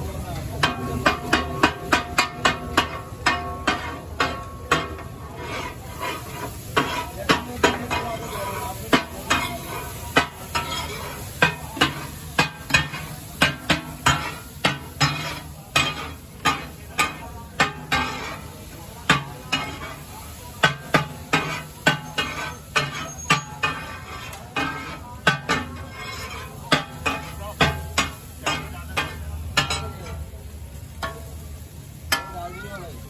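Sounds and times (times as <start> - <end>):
food sizzling: 0.0 - 33.0
metal spatula clanking on griddle: 0.1 - 33.0.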